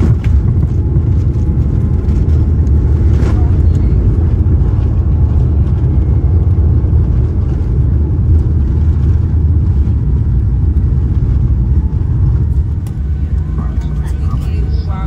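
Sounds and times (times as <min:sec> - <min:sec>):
jet cabin low rumble: 0:00.0 - 0:15.0.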